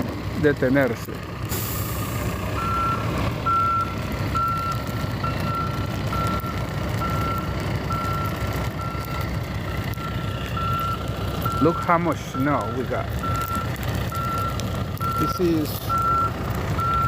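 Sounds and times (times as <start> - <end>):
low engine rumble: 0.0 - 17.0
vehicle backup alarm beeping: 1.8 - 17.0.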